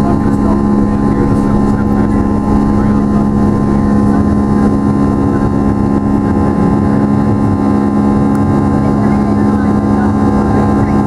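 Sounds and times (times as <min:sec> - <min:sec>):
jet engine buzzsaw drone: 0:00.0 - 0:11.0.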